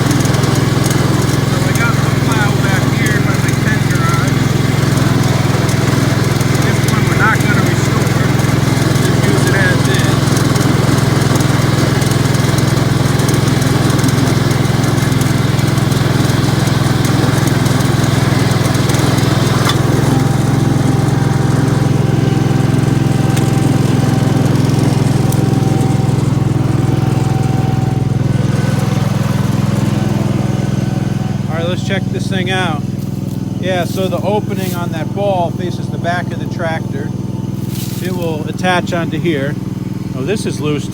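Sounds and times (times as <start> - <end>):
garden tractor engine running: 0.0 - 40.9.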